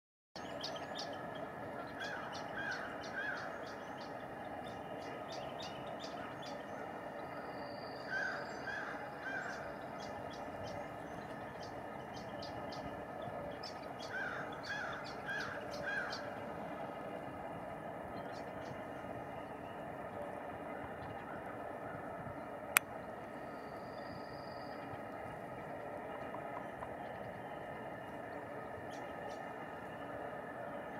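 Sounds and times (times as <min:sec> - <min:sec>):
steady background hiss: 0:00.4 - 0:30.9.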